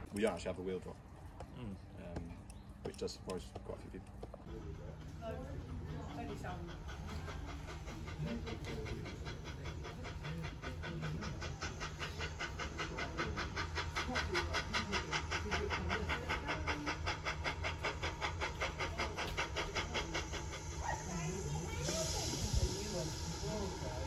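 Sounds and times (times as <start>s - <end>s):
distant steam locomotive chuffing: 0.0s - 24.0s.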